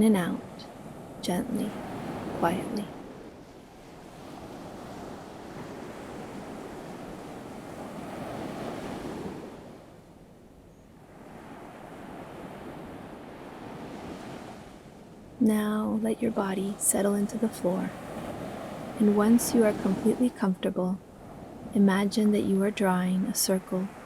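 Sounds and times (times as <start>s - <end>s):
ocean surf washing ashore: 0.0s - 10.4s, 11.0s - 24.0s.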